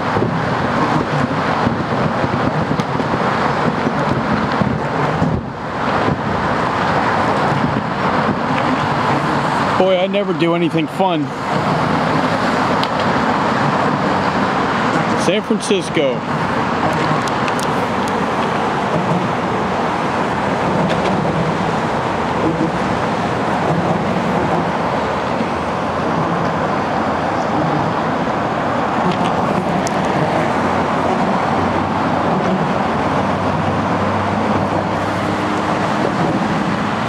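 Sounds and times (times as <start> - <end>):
road traffic noise: 0.0 - 37.0
vehicle engine hum: 0.0 - 37.0.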